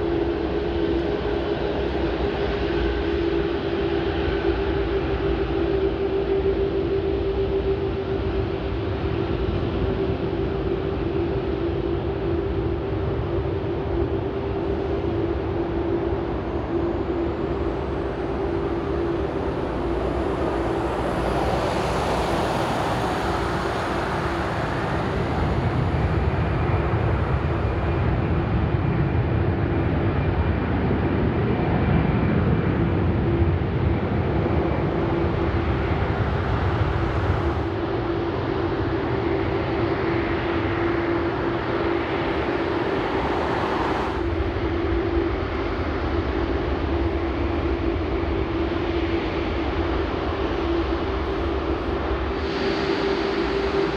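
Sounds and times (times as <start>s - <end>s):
jet engines rumbling: 0.1s - 53.9s.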